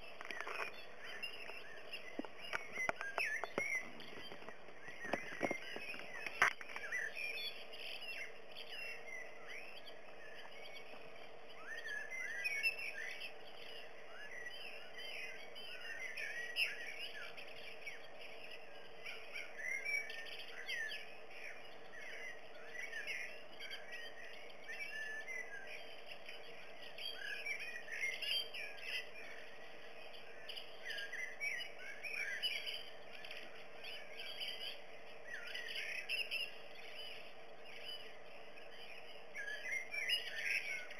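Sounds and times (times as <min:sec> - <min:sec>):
birds chirping: 0:00.0 - 0:40.9
steady faint hum: 0:00.0 - 0:40.9.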